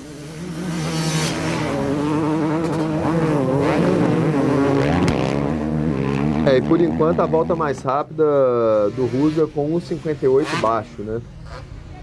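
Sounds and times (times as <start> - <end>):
motocross bike engines revving: 0.0 - 11.8.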